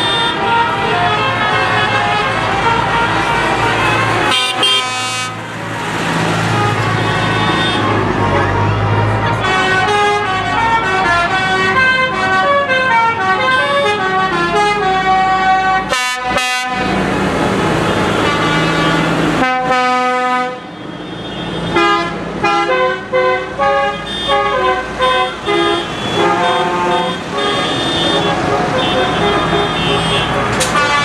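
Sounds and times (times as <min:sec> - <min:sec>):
musical vehicle horn tune: 0:00.0 - 0:05.5, 0:06.4 - 0:17.0, 0:17.9 - 0:31.0
tractor engines humming: 0:00.0 - 0:31.0.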